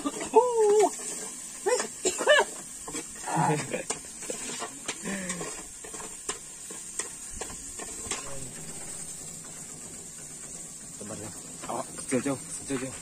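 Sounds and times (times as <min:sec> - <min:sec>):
spice paste sizzling in oil: 0:00.0 - 0:13.0.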